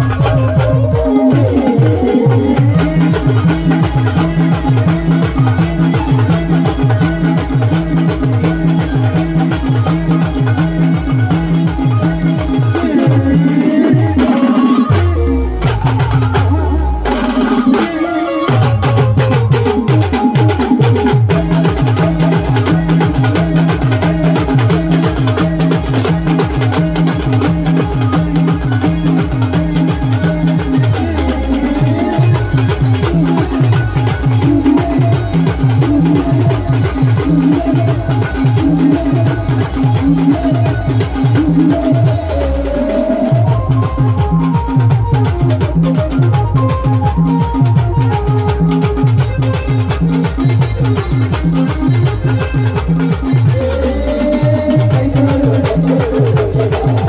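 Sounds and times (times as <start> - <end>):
fast drum beat: 0.0 - 57.0
folk dance band music: 0.0 - 57.0.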